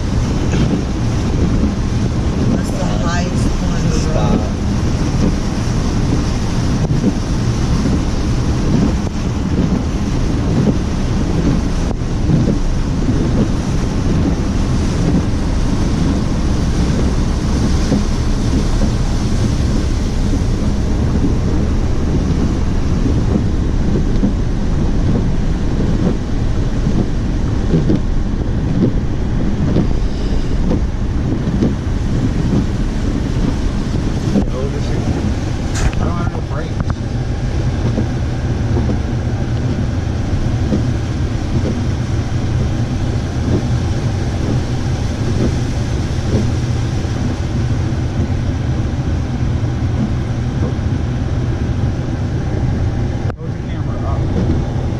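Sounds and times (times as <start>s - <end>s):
water churning and splashing: 0.0s - 54.9s
wind buffeting microphone: 0.0s - 54.9s.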